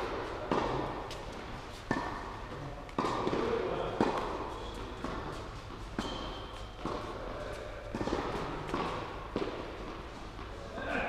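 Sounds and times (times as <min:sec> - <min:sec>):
tennis ball hit by rackets: 0:00.0 - 0:10.0
tennis ball bouncing: 0:00.0 - 0:10.5.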